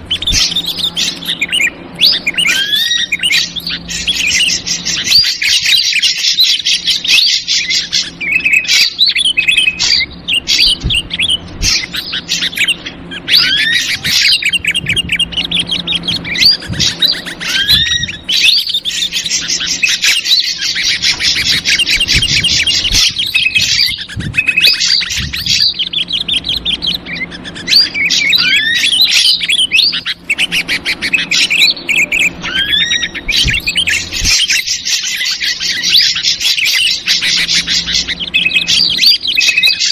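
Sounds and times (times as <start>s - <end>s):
bird chatter with trills and whistles: 0.0s - 39.9s.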